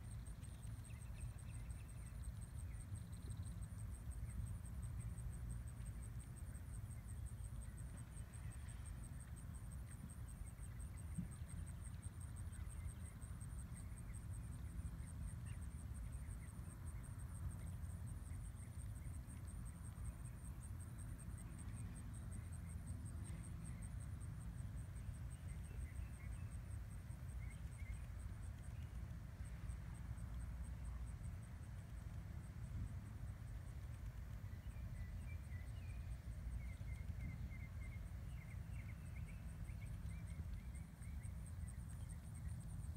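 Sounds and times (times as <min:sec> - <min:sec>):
insects trilling: 0:00.0 - 0:42.9
low steady rumble: 0:00.0 - 0:42.9.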